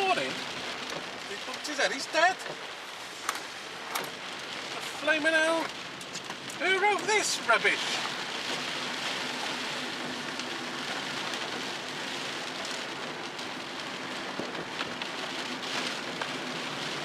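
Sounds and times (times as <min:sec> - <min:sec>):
engine and road noise hum: 0:00.0 - 0:17.0
rain drumming on a car: 0:00.0 - 0:17.0.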